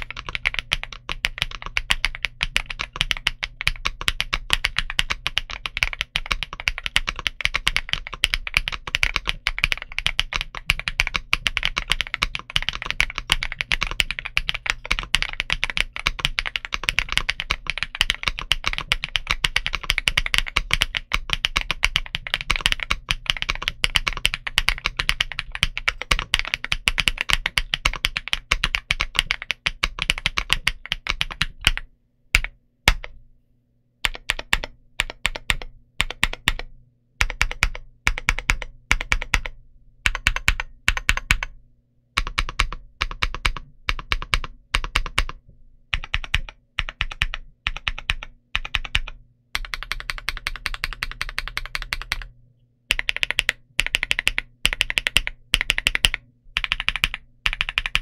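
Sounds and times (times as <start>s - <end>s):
typing on mechanical keyboard: 0.0s - 33.2s, 34.0s - 41.6s, 42.2s - 52.3s, 52.9s - 58.0s.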